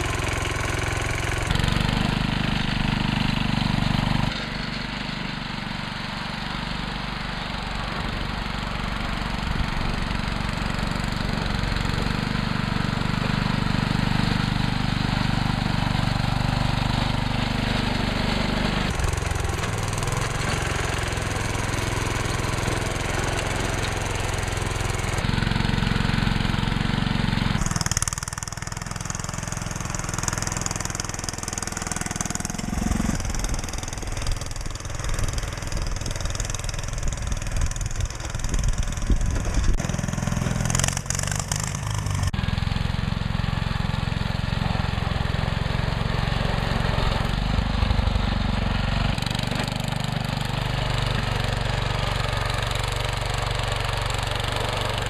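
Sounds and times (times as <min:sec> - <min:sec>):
garden tractor engines running: 0:00.0 - 0:55.0
plow blades pushing snow: 0:00.0 - 0:55.0.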